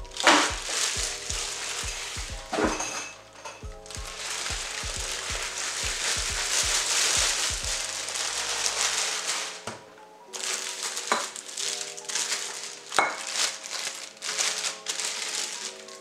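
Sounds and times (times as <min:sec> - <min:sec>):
background music: 0:00.0 - 0:16.0
plastic bag crinkling: 0:00.0 - 0:16.0.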